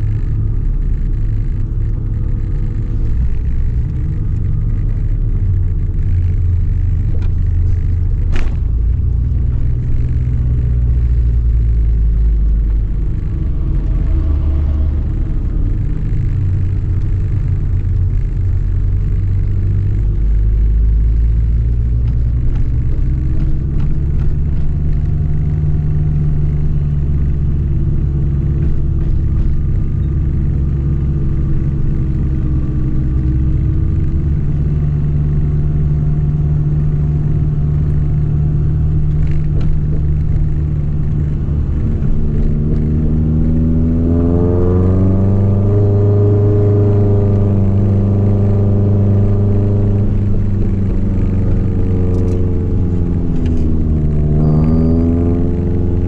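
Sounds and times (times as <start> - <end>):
car engine heard from cabin: 0.0 - 56.0
low road rumble: 0.0 - 56.0.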